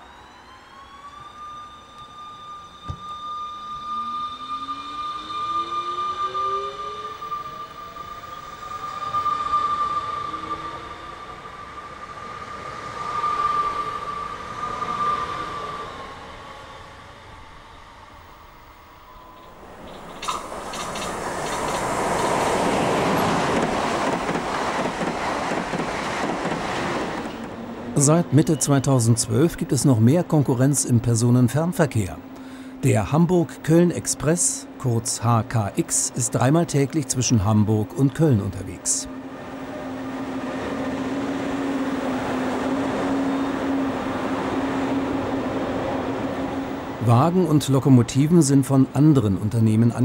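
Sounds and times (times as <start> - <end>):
electric locomotive hum: 0.0 - 50.0
train rumbling over bridge: 0.0 - 50.0.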